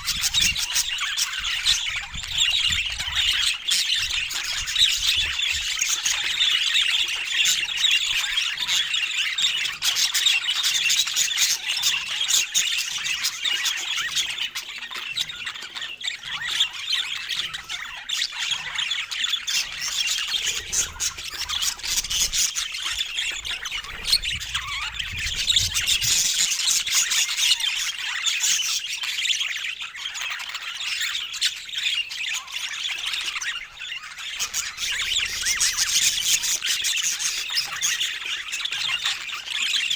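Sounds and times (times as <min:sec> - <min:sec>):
budgies chattering and warbling: 0:00.0 - 0:39.9.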